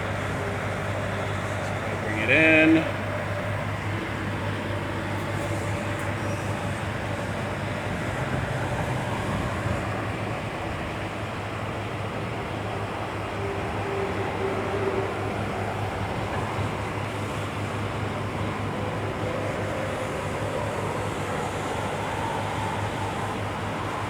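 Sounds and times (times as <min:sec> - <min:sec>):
boom lift engine running: 0:00.0 - 0:24.0.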